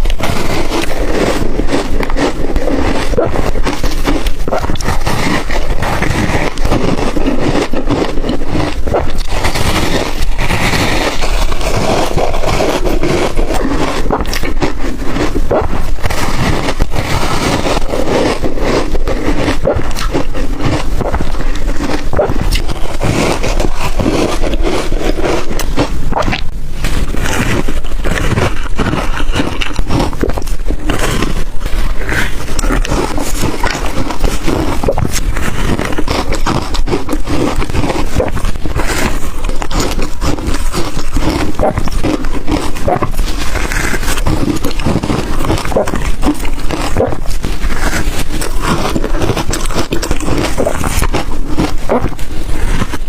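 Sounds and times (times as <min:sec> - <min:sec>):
ice crunching while chewed: 0:00.0 - 0:53.0.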